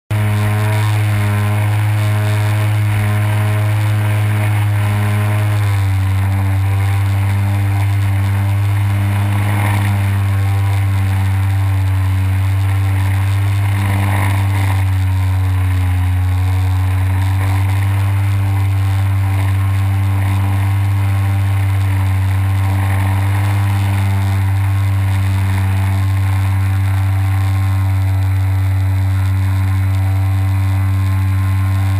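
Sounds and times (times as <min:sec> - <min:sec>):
small aircraft propeller droning: 0:00.1 - 0:31.9.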